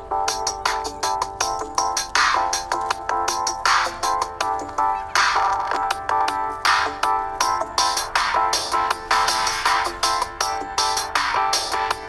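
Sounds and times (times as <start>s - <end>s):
electronic music with synth and beat: 0.0s - 12.0s.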